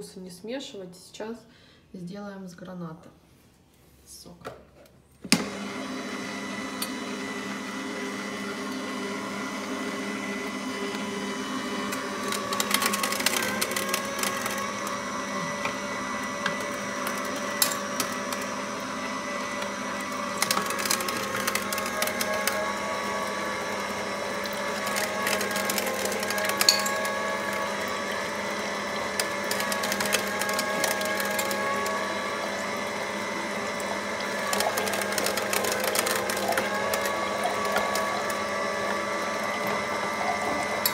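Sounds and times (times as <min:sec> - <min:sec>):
juicer motor whining: 0:05.2 - 0:40.9.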